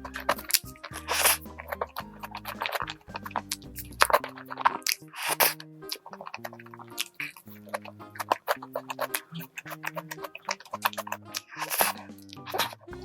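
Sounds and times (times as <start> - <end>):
crisp biting and chewing: 0.0 - 13.0
soft background music: 0.0 - 13.0.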